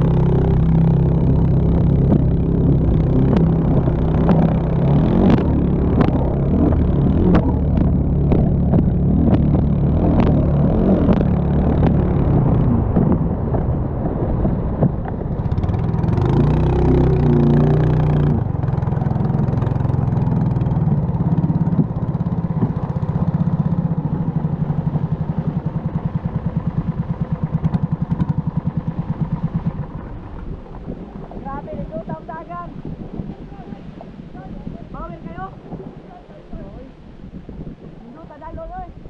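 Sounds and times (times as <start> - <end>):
boat engine running hard: 0.0 - 39.0
water rushing past hull: 0.0 - 39.0.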